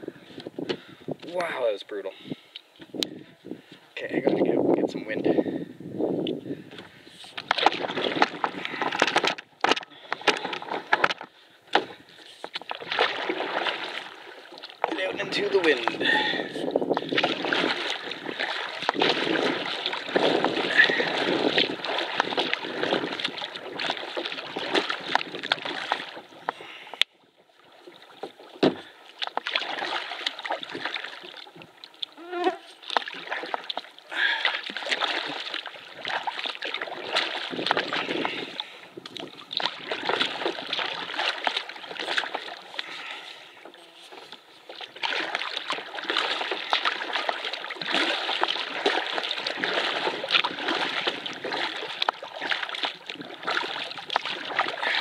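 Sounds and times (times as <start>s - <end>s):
paddle splashing in water: 6.7s - 55.0s.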